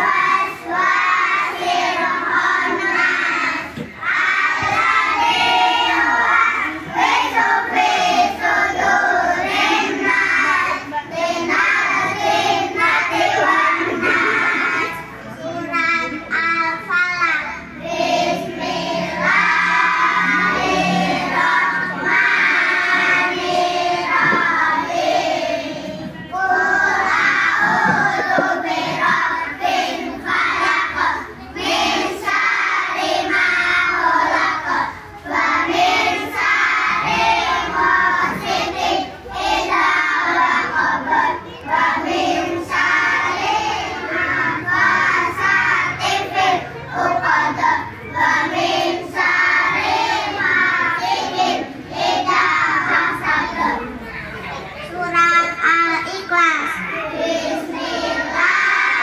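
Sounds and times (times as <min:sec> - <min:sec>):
children singing into microphone: 0:00.0 - 0:59.0.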